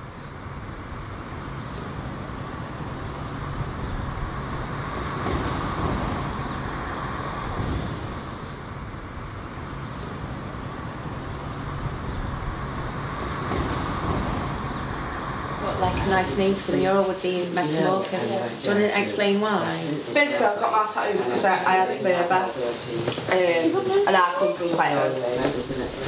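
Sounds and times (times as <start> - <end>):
distant road traffic rumble: 0.0 - 26.0.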